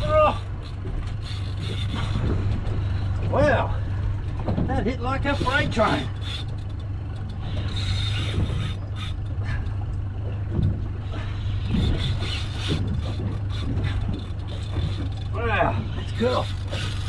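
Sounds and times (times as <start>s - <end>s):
fishing reel rasping and clicking: 0.0s - 3.1s, 5.2s - 10.0s, 10.6s - 17.0s
steady low hum: 0.0s - 17.0s.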